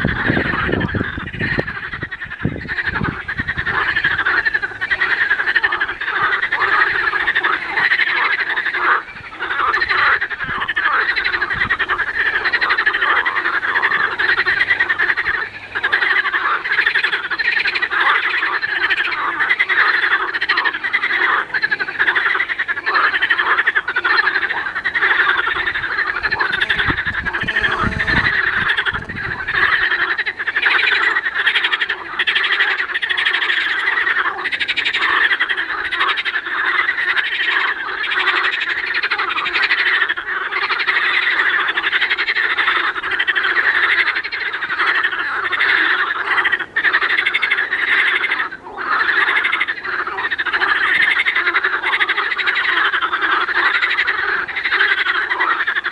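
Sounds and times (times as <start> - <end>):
frogs croaking: 0.0 - 55.9.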